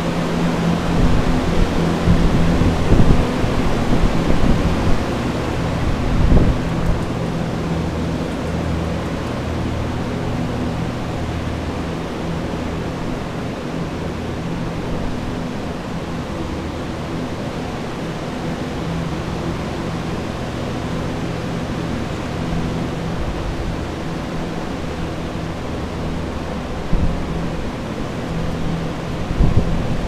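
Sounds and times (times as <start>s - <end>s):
low motor hum: 0.0s - 30.0s.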